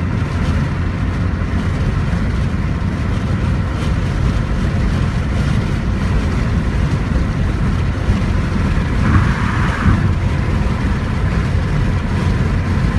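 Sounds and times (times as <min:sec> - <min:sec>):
car engine uneven rumble: 0:00.0 - 0:12.9.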